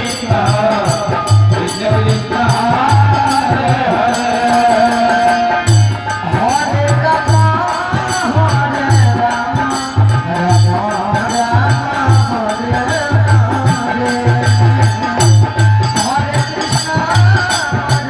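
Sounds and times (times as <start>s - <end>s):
jingling hand percussion: 0.0s - 18.0s
steady drum beat: 0.0s - 18.0s
wavering devotional melody: 0.0s - 18.0s.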